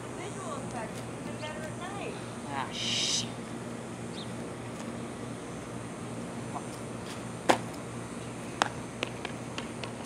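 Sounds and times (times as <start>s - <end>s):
low outdoor hum: 0.0s - 10.0s.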